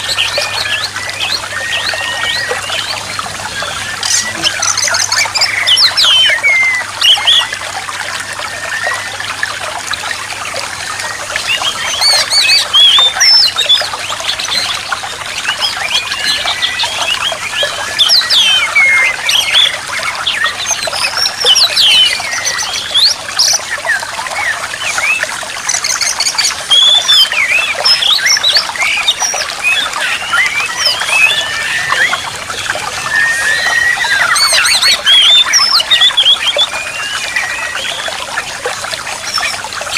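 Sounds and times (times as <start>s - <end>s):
songbirds chirping and whistling: 0.0s - 39.9s
trickle of running water: 0.0s - 39.9s.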